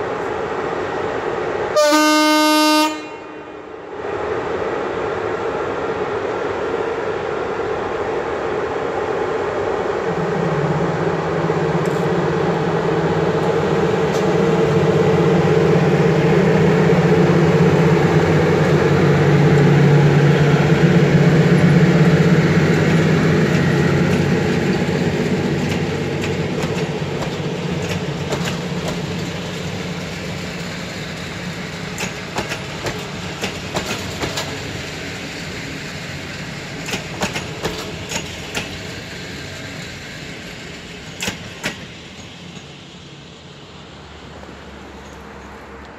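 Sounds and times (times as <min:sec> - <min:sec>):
train rumbling past: 0:00.0 - 0:45.9.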